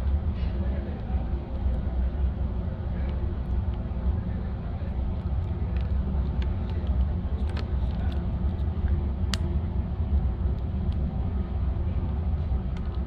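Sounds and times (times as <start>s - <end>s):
furnace burner rumbling: 0.0s - 13.0s.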